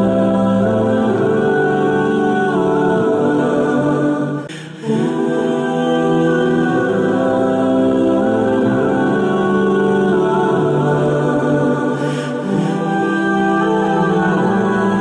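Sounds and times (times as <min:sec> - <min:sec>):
choir-like held vocal notes: 0:00.0 - 0:15.0.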